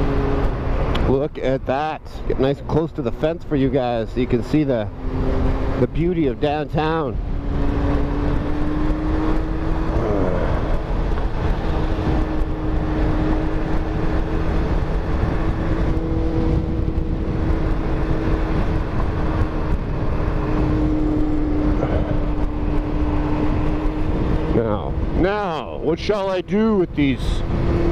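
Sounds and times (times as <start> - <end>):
motorcycle engine cruising: 0.0 - 27.9
wind noise: 0.0 - 27.9.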